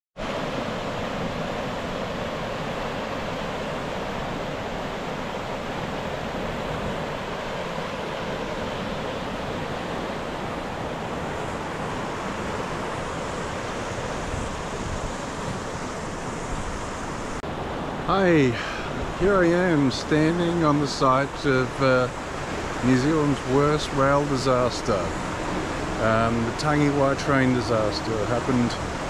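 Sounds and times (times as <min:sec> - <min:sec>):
river rushing over stones: 0:00.2 - 0:29.0.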